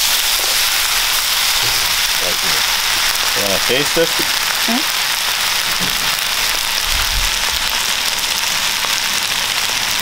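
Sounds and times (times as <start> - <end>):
rice sizzling in a frying pan: 0.0 - 10.0.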